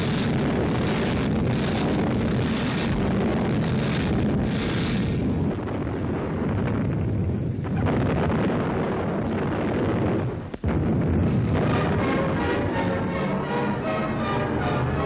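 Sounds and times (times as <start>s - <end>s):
gunfire and explosions rumble: 0.0s - 15.0s.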